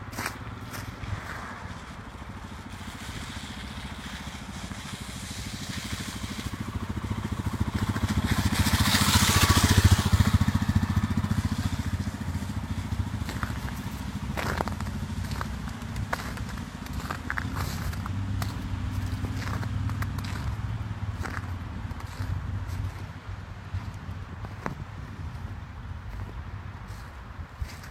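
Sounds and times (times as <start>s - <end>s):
vehicle engine passing by: 0.0s - 27.9s.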